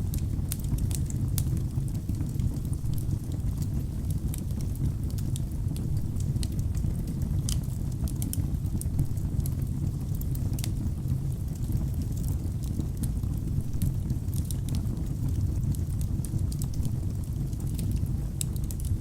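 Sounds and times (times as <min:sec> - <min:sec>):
low rumble of flames: 0:00.0 - 0:19.0
crackles and pops from logs: 0:00.1 - 0:10.9, 0:11.5 - 0:19.0.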